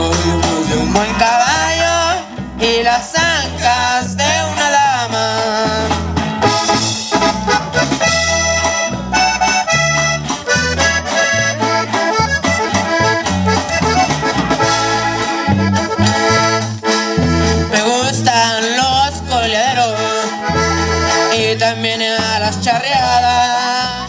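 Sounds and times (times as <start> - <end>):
drum kit: 0.0 - 23.7
accordion melody: 0.0 - 24.0
electric bass: 0.0 - 24.0
strummed twelve-string guitar: 0.0 - 24.0.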